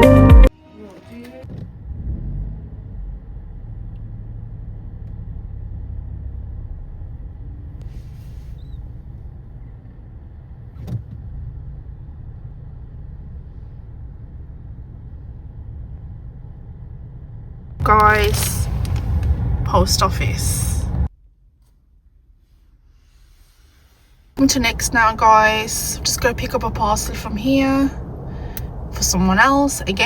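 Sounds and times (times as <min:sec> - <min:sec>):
car driving low rumble: 0:01.0 - 0:30.0.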